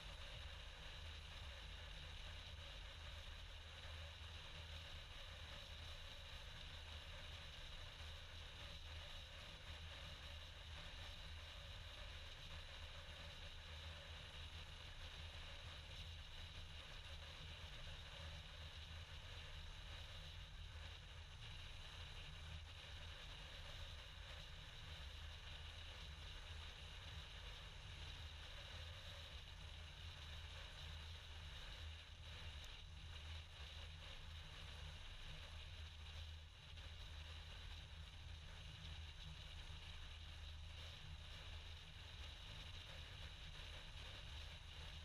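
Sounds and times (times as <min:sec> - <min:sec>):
faint low hum with hiss: 0:00.0 - 0:45.0.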